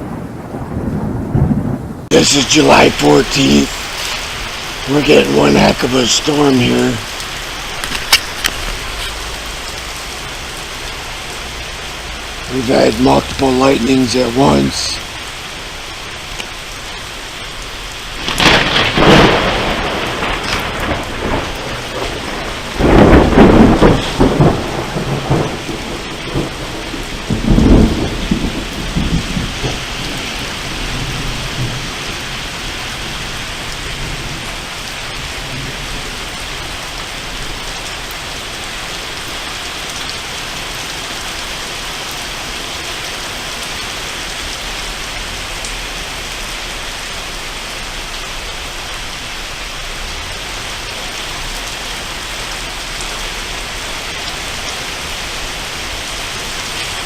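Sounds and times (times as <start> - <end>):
heavy rain falling: 0.0 - 57.0
thunder rumbling: 0.0 - 57.0.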